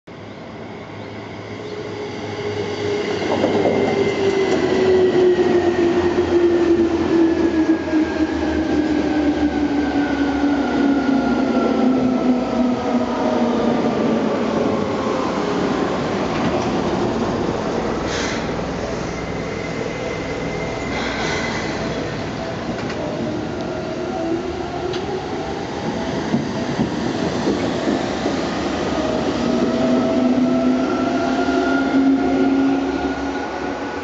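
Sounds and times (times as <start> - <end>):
electric train running past: 0.2 - 34.0.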